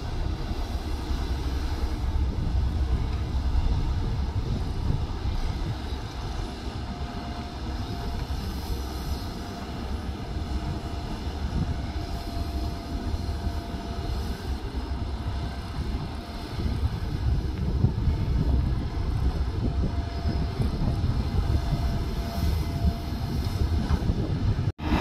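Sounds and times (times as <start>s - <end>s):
diesel engine low rumble: 0.0s - 25.0s
faint steady whine: 0.0s - 25.0s.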